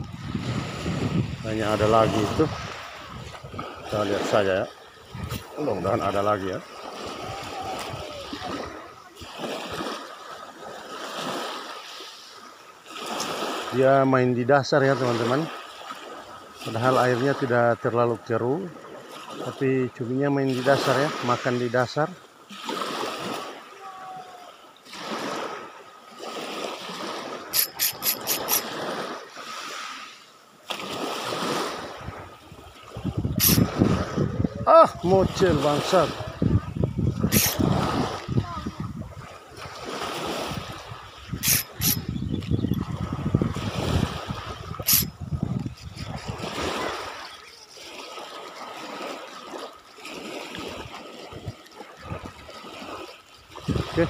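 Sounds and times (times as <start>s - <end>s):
small waves lapping on beach: 0.0s - 54.0s.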